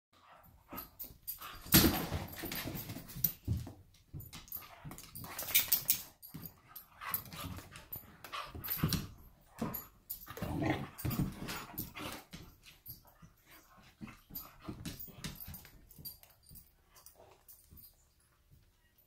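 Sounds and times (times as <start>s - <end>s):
dogs scuffling: 0.3s - 18.8s.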